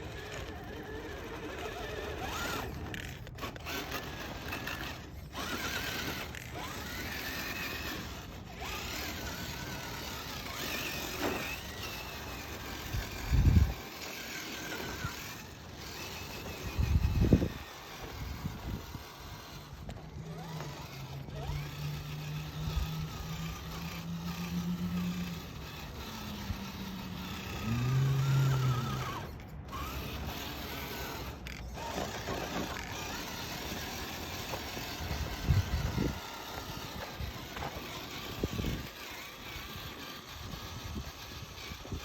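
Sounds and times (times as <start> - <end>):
rc car electric motor whining: 0.0 - 42.0.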